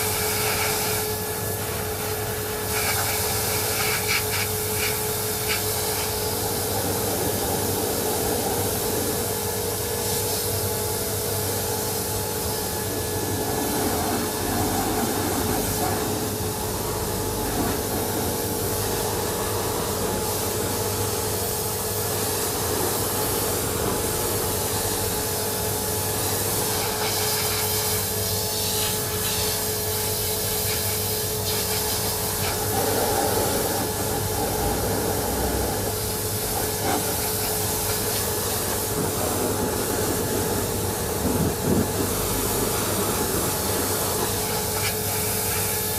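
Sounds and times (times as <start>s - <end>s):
high-pressure water spraying: 0.0s - 45.9s
mechanical hum: 0.0s - 45.9s.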